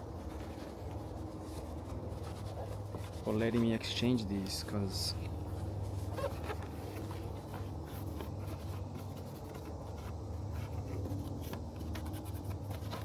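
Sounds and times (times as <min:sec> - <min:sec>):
light scratching and rubbing: 0:00.0 - 0:13.0
steady low hum: 0:00.0 - 0:13.0.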